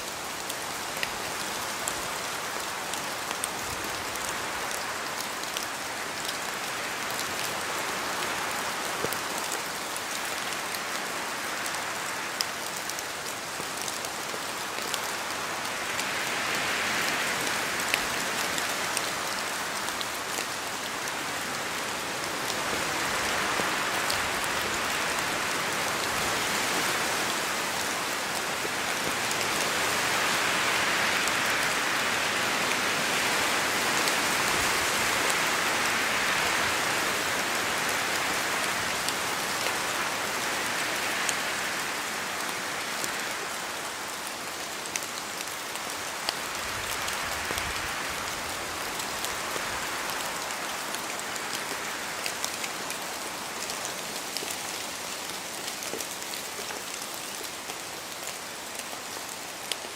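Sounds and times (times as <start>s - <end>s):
rain falling through trees: 0.0s - 59.9s
wind: 0.0s - 59.9s.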